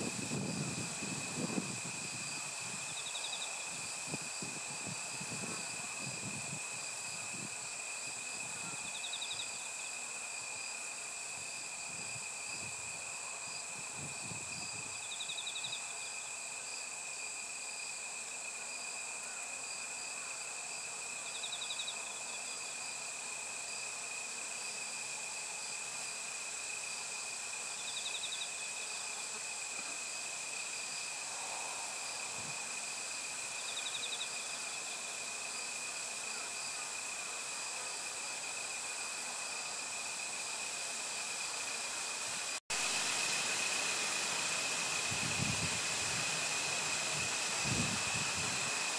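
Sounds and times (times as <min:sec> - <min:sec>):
crickets trilling: 0:00.0 - 0:48.9
pulsed insect chirp: 0:00.0 - 0:48.9.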